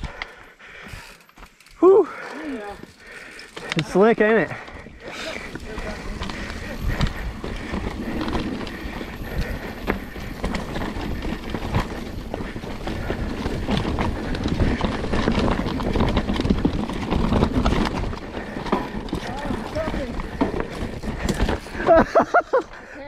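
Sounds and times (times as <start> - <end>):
bike knocking and rattling: 0.0 - 23.0
bike tyres on wet ground: 0.0 - 23.0.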